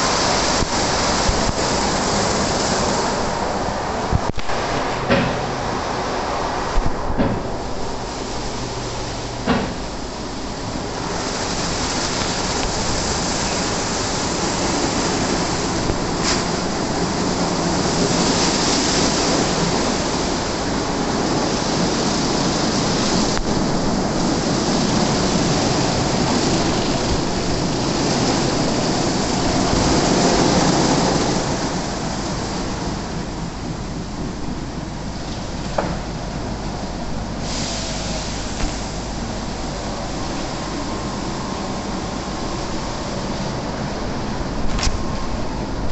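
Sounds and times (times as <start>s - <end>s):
water spraying: 0.0s - 45.8s.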